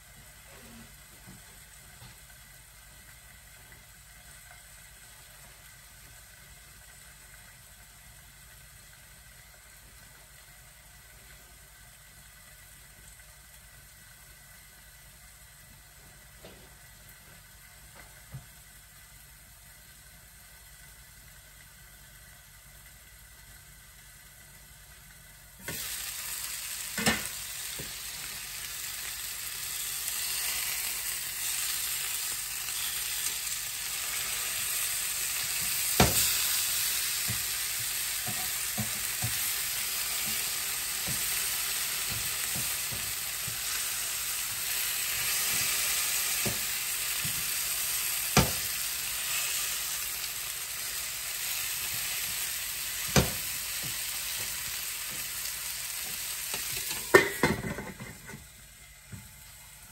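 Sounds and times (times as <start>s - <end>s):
chicken sizzling in a frying pan: 0.0s - 59.9s.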